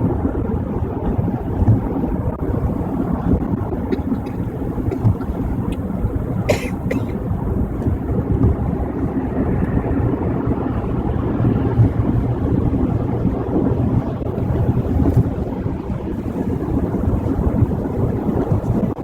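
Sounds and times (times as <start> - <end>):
tyres and engine rumbling: 0.0 - 19.0.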